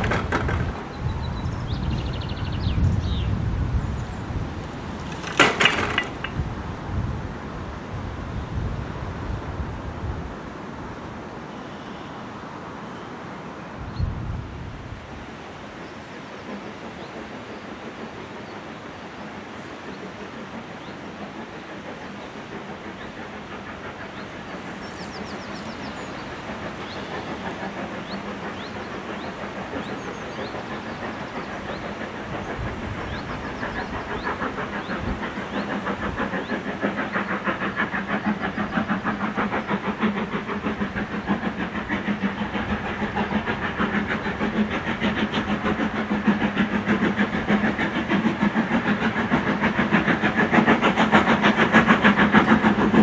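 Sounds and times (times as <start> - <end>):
steam locomotive chuffing: 0.0 - 13.6, 14.7 - 53.0.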